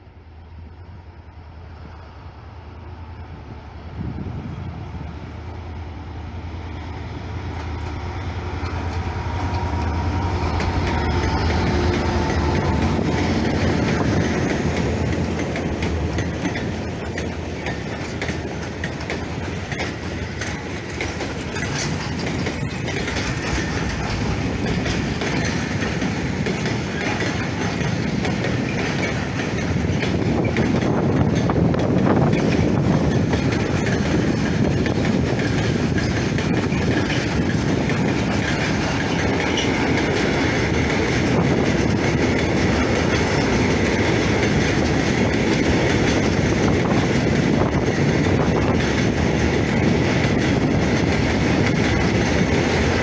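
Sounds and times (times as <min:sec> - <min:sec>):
locomotive engine hum: 0:00.0 - 0:53.0
wagons rolling on rails: 0:08.5 - 0:53.0.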